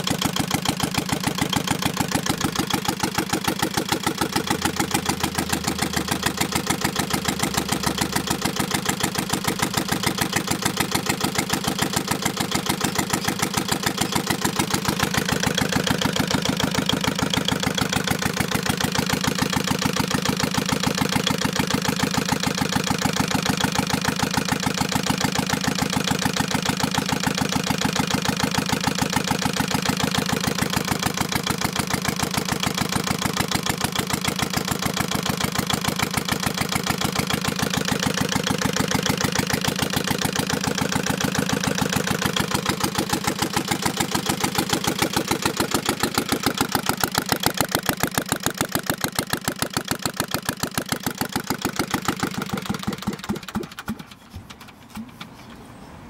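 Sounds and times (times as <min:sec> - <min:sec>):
diesel engine chugging at idle: 0:00.0 - 0:55.3.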